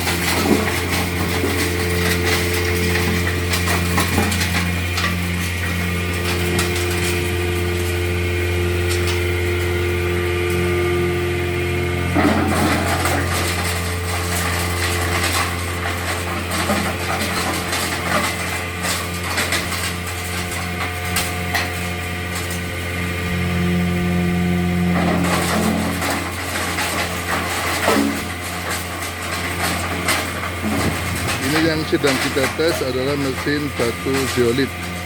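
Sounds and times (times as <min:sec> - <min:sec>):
stone clattering in crusher: 0:00.0 - 0:11.2, 0:12.0 - 0:22.8, 0:24.7 - 0:35.0
hammer mill humming: 0:00.0 - 0:35.0.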